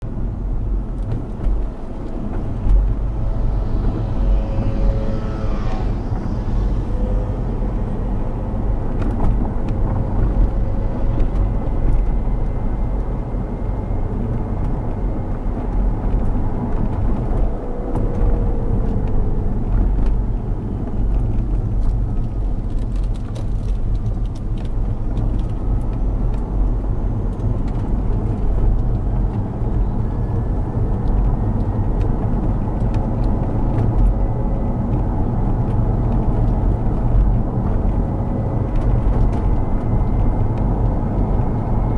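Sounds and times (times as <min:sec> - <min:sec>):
car road and drivetrain rumble: 0:00.0 - 0:41.9.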